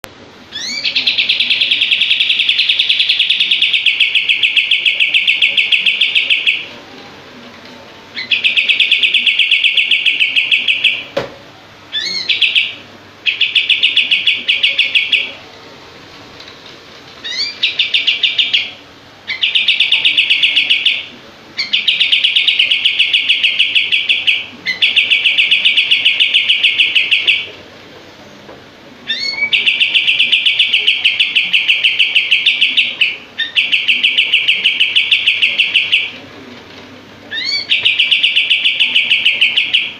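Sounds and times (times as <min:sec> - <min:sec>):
songbird trilling: 0:00.5 - 0:06.7, 0:08.2 - 0:11.1, 0:11.9 - 0:15.4, 0:17.2 - 0:27.5, 0:29.1 - 0:36.1, 0:37.3 - 0:39.9.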